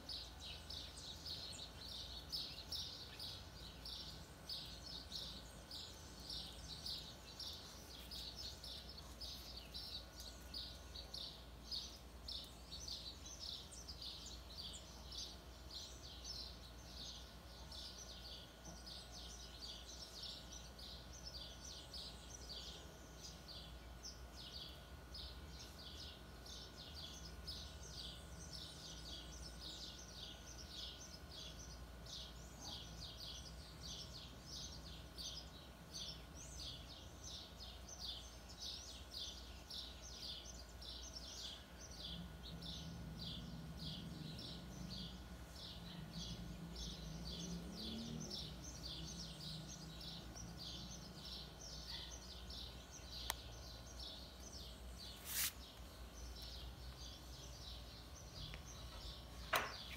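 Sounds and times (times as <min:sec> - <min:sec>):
birds chirping: 0:00.0 - 0:59.9
faint low hum: 0:00.0 - 0:59.9.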